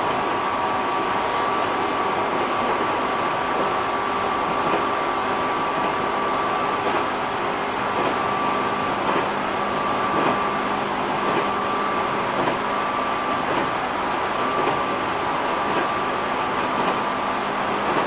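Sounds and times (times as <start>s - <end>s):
train wheels and motors rumbling: 0.0s - 18.0s.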